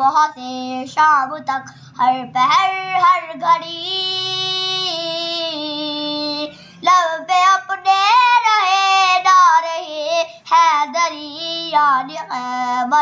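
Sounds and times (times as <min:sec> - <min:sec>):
boy singing: 0:00.0 - 0:13.0.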